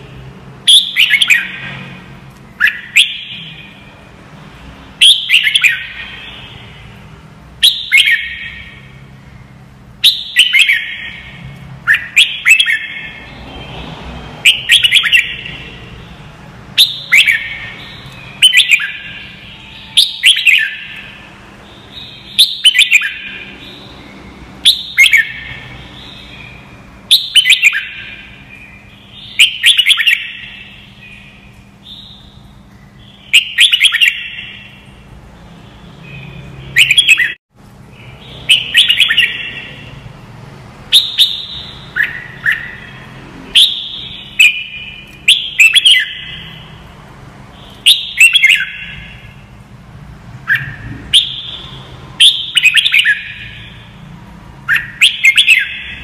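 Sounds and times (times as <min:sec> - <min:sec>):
bird singing warbled phrases: 0:00.0 - 0:40.2, 0:40.8 - 0:49.6, 0:50.4 - 0:56.0.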